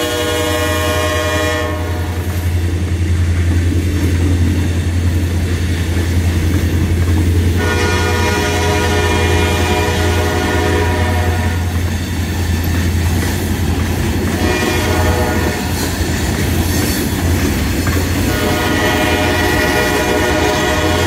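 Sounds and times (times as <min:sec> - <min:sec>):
freight train wheels grinding on rails: 0:00.0 - 0:21.0
low train rumble: 0:00.0 - 0:21.0.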